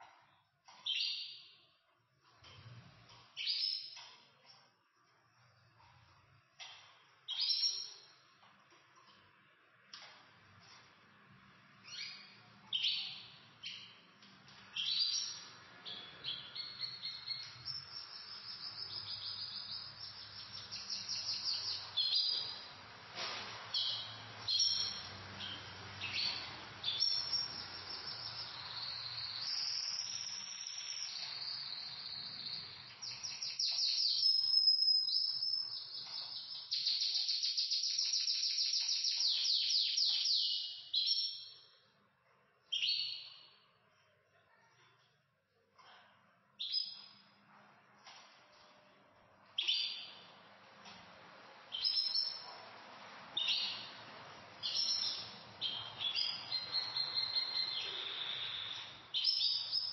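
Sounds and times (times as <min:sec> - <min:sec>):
canaries singing: 0:00.0 - 0:08.8, 0:10.0 - 0:41.8, 0:42.7 - 0:43.7, 0:46.6 - 0:47.4, 0:49.5 - 0:59.9.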